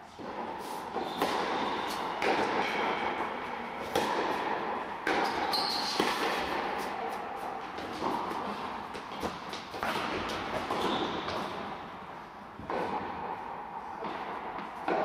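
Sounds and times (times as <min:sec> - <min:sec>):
tennis ball bouncing: 0:00.2 - 0:11.8, 0:12.6 - 0:15.0
rackets striking tennis ball: 0:00.2 - 0:15.0.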